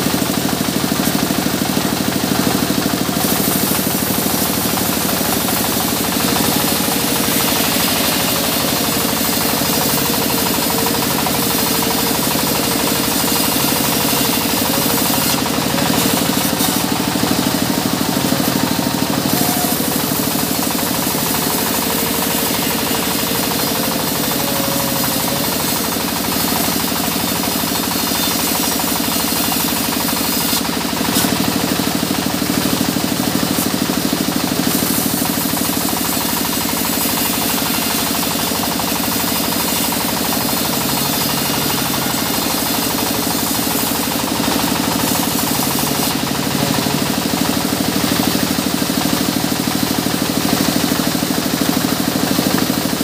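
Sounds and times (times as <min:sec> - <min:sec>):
band saw cutting log: 0:00.0 - 0:53.0.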